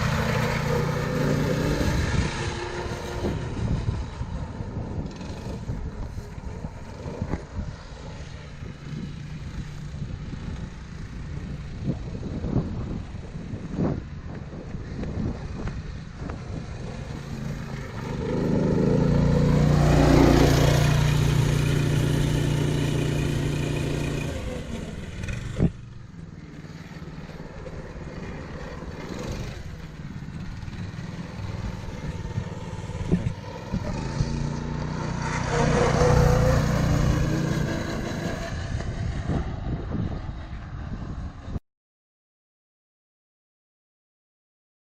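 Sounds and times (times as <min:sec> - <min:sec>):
go-kart engine running: 0:00.0 - 0:41.4.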